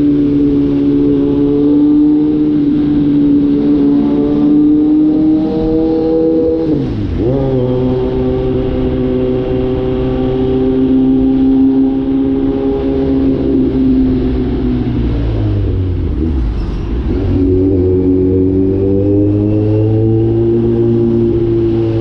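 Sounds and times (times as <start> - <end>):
motorcycle engine while riding: 0.0 - 22.0.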